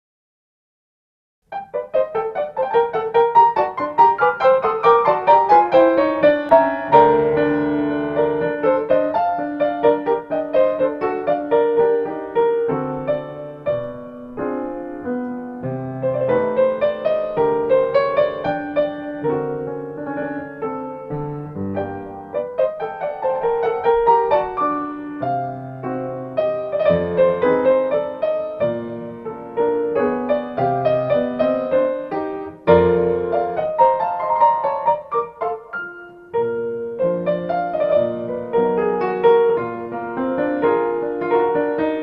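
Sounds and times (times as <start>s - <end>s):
solo piano music: 1.4s - 42.0s.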